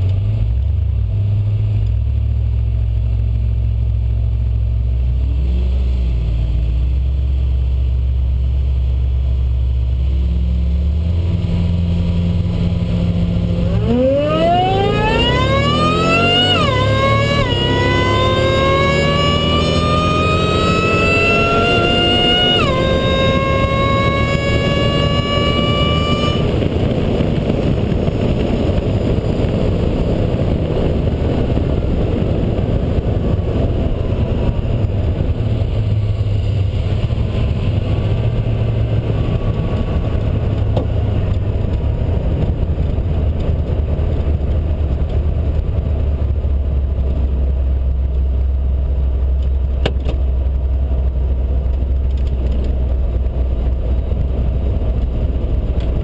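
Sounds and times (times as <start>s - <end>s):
car engine low rumble: 0.0s - 56.0s
road and wind noise: 0.0s - 56.0s.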